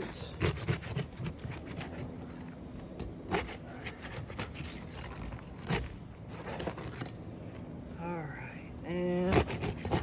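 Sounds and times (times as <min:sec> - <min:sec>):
pry bar scraping shingles: 0:00.0 - 0:07.6, 0:09.1 - 0:10.0.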